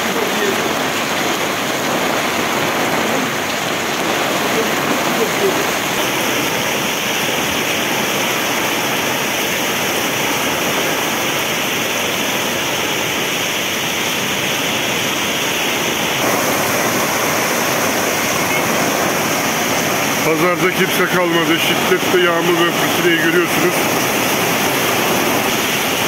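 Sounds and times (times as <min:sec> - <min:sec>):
torrential rain hiss: 0:00.0 - 0:26.0.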